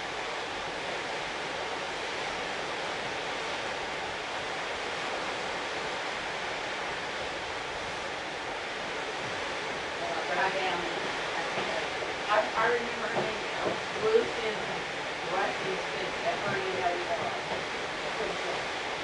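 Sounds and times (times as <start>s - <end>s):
sea and wind rushing: 0.0s - 19.0s.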